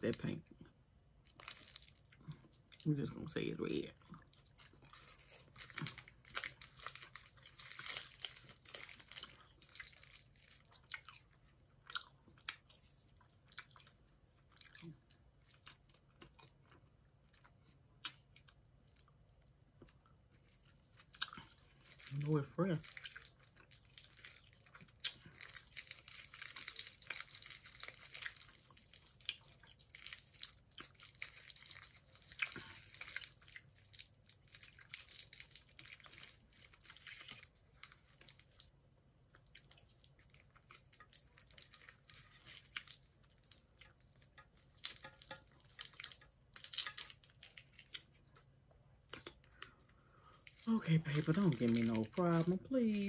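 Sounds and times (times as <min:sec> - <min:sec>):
candy wrapper crinkling and tearing: 0:01.2 - 0:03.4, 0:04.1 - 0:16.7, 0:17.4 - 0:53.0.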